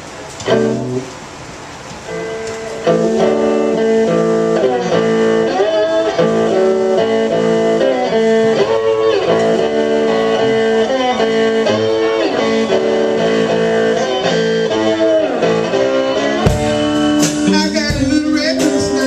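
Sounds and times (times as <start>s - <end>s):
blues guitar playing: 0.0s - 19.0s.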